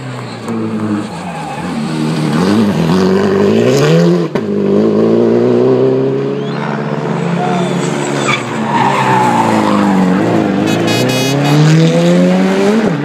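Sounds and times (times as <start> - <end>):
rally car engine revving: 0.1 - 13.0.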